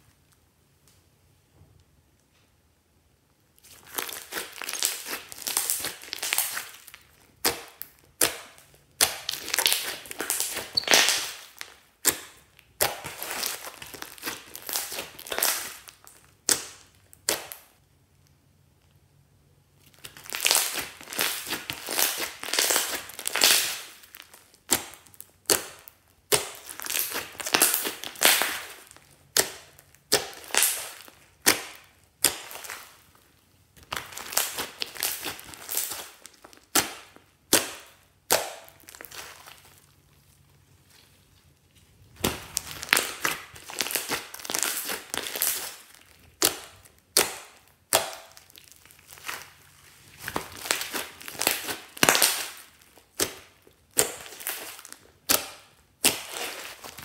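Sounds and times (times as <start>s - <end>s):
slime squeezed crackling: 3.6s - 17.7s, 19.8s - 57.0s.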